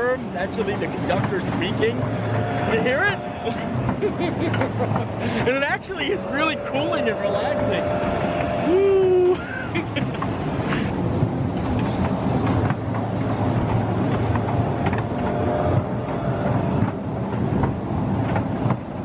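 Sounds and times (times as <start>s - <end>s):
kiddie train rumbling and rattling: 0.0s - 19.0s.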